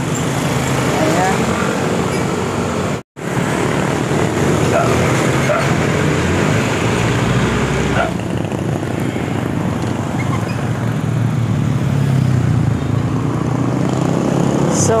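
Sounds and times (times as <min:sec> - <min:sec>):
motorcycle and car engines humming: 0:00.0 - 0:15.0.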